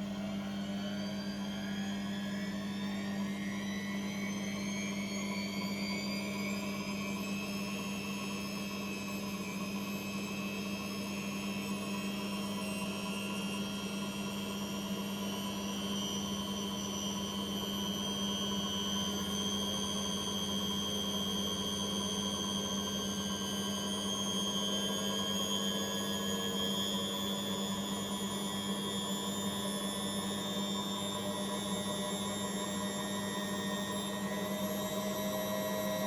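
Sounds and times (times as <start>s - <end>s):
appliance motor humming and whining: 0.0s - 36.0s.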